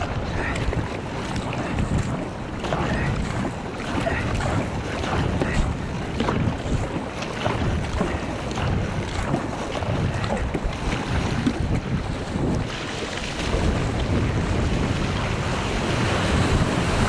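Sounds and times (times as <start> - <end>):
paddle splashing in water: 0.0 - 17.0
water rushing past hull: 0.0 - 17.0
wind rumble on microphone: 0.0 - 17.0.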